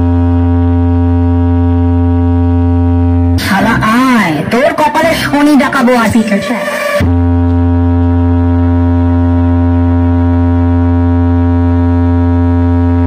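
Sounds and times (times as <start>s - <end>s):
sustained bass tone from speakers: 0.0s - 13.0s.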